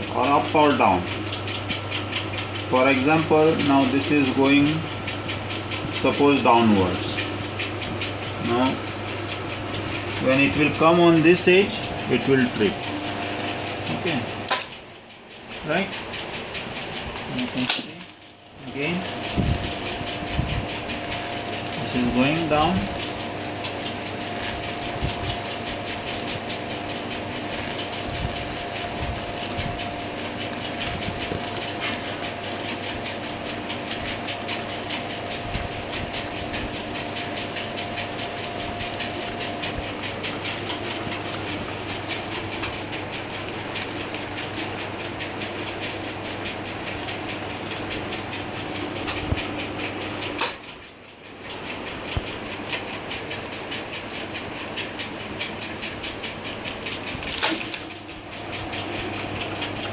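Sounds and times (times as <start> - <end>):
shutter motor humming and rattling: 0.0 - 59.9.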